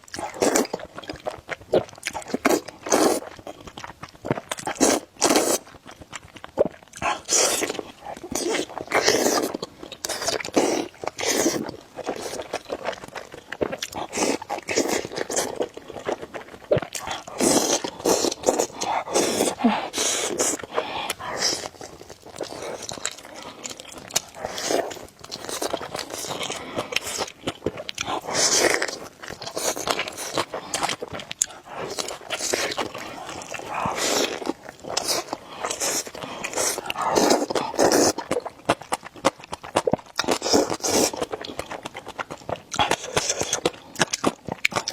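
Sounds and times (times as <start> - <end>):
person chewing and biting noodles: 0.0 - 44.9.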